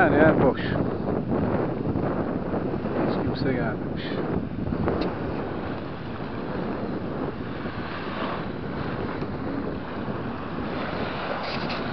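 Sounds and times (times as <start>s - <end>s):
small waves washing on beach: 0.0s - 11.9s
wind buffeting microphone: 0.0s - 11.9s.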